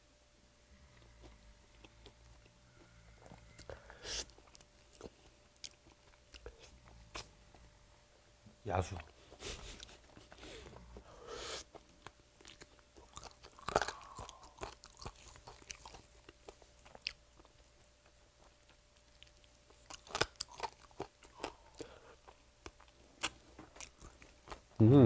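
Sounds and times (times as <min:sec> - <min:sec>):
biting and chewing fried chicken: 0:01.0 - 0:07.8, 0:08.9 - 0:24.8.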